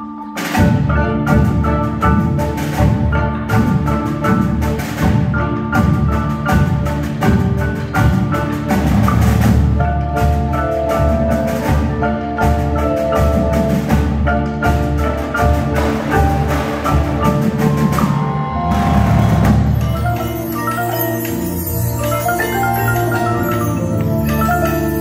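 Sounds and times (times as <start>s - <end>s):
marimbas and vibraphones playing: 0.0s - 25.0s.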